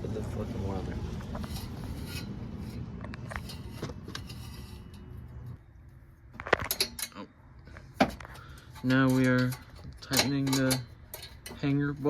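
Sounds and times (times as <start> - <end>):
metal clicks and scraping: 1.2 - 5.6, 6.4 - 12.0.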